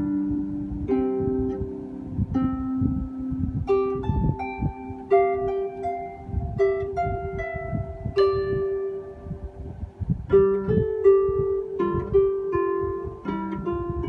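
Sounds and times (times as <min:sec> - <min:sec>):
solo harp plucked notes: 0:00.0 - 0:14.0.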